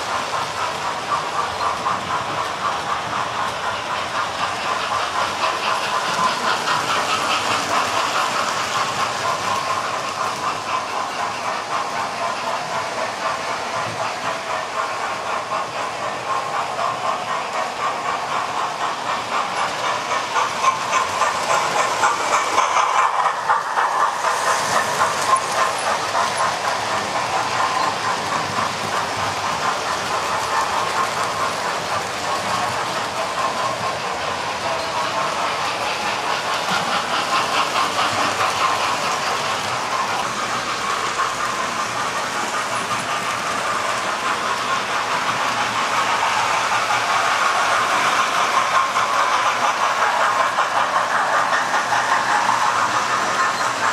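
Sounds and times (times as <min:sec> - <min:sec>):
model locomotive running noise: 0:00.0 - 0:53.9
model train wheels clicking on track: 0:00.0 - 0:53.9.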